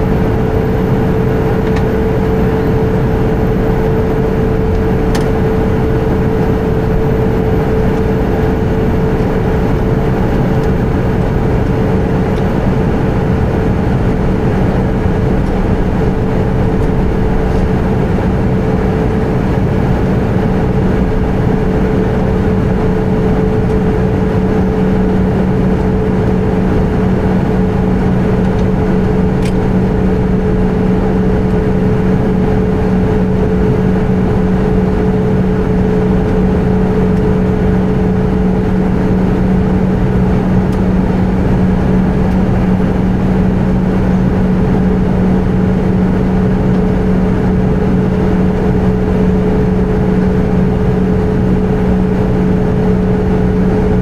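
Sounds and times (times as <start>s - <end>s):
aircraft cabin jet engine drone: 0.0s - 54.0s.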